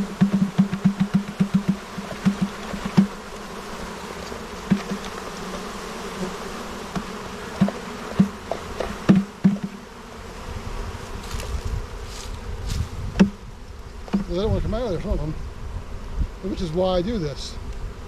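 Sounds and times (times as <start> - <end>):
honeybees droning: 0.0 - 18.0
single bee buzzing close by: 0.0 - 18.0.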